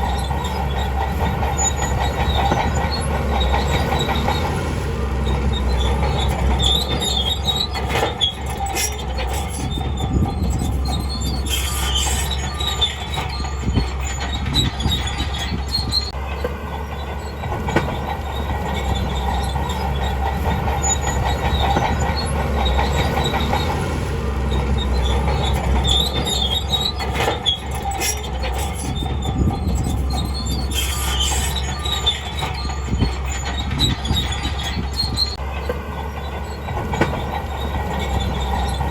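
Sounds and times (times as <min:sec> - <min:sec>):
diesel engine drone: 0:00.0 - 0:38.9
steel tracks clanking and squealing: 0:00.0 - 0:38.9.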